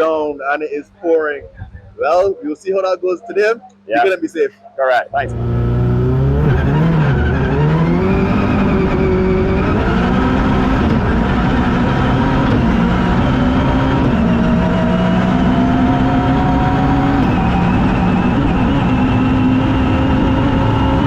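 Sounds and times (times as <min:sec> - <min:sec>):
car engine running hard: 0:04.0 - 0:21.0.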